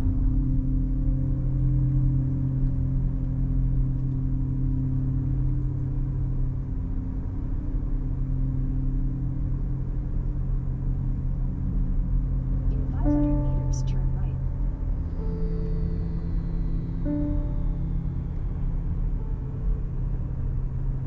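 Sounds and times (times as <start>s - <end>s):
car engine and road drone: 0.0s - 21.0s.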